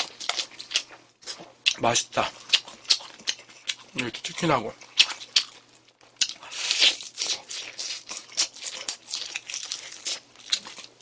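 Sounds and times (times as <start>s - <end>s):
fried chicken crunching: 0.0s - 11.0s.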